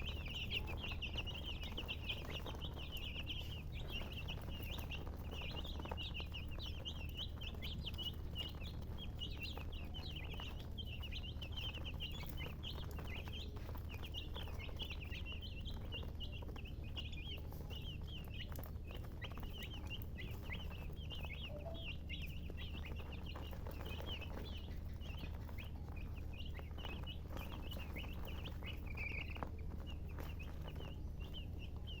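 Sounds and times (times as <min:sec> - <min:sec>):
chickens chirping: 0:00.0 - 0:32.0
steady low hum: 0:00.0 - 0:32.0.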